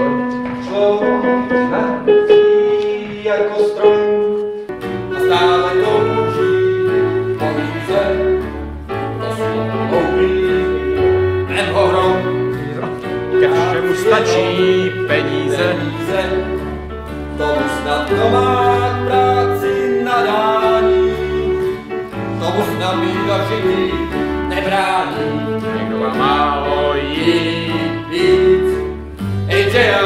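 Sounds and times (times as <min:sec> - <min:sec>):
held melodic notes: 0:00.0 - 0:30.0.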